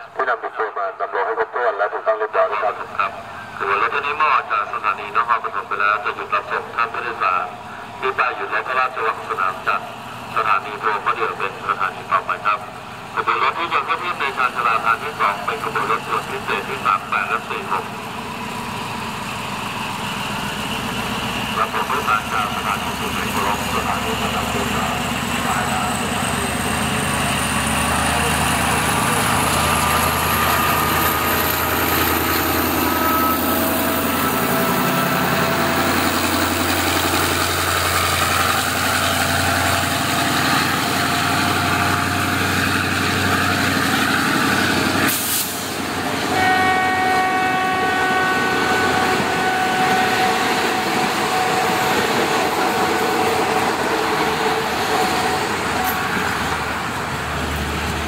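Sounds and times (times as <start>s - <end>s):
diesel train engine slowing: 0.0s - 58.0s.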